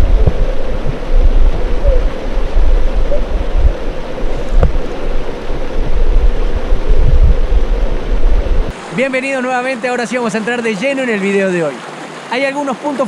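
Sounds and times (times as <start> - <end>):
underwater creek rushing: 0.0 - 13.0.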